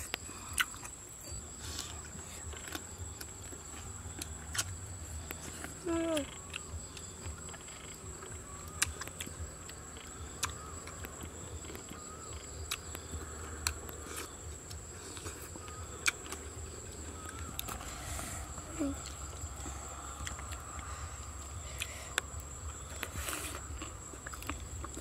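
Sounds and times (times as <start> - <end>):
insect chirring: 0.0 - 25.0.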